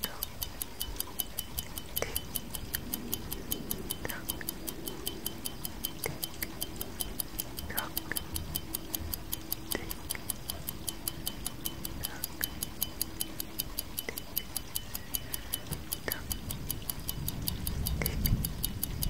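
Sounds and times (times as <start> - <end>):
clock ticking quickly: 0.0 - 19.0.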